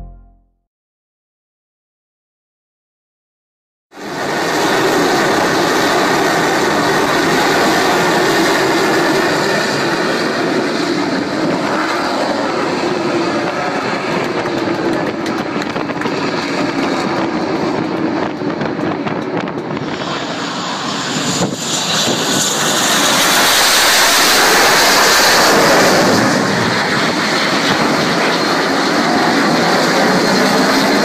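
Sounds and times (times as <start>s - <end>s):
jet engine rushing: 4.0s - 31.0s.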